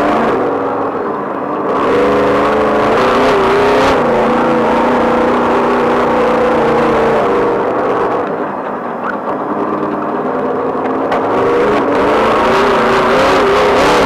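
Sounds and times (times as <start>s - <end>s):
race vehicle engine revving: 0.0s - 14.0s
road noise rushing: 0.0s - 14.0s.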